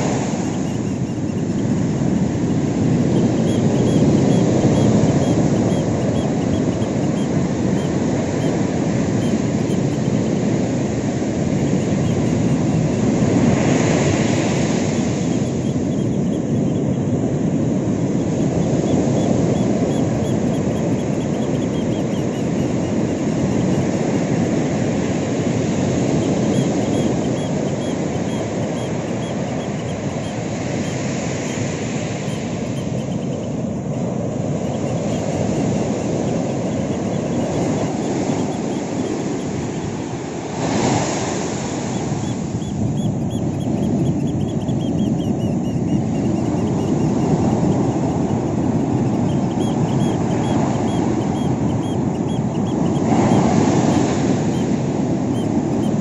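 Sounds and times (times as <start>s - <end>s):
ocean surf crashing on beach: 0.0s - 56.0s.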